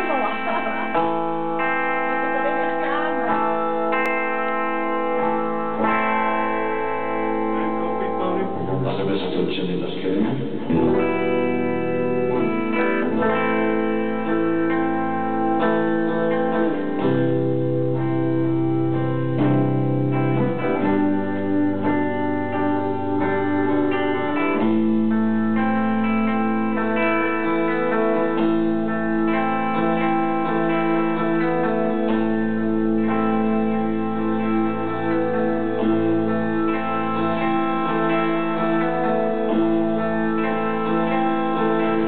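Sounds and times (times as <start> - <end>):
ambient electric guitar drone: 0.0 - 42.0.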